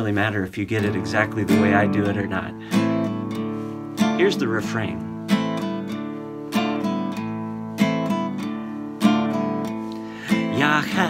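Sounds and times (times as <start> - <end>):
acoustic guitar strumming: 0.7 - 11.0.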